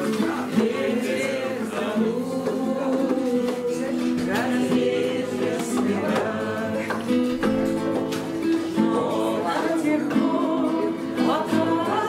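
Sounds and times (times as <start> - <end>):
acoustic guitar: 0.0 - 12.0
group of people singing: 0.0 - 12.0.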